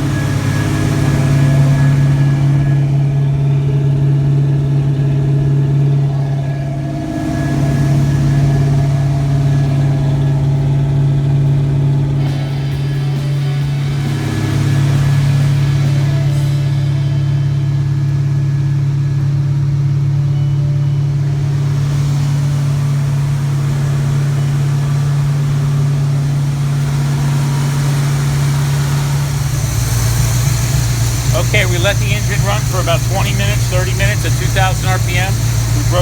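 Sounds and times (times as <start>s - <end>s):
engine running at fast idle: 0.0s - 36.0s.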